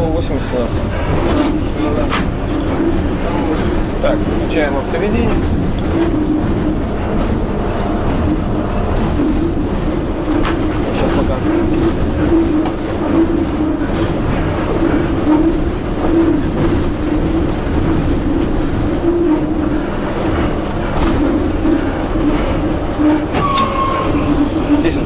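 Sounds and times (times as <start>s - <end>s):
locomotive cab hum: 0.0s - 25.0s
rail clicks: 0.0s - 25.0s.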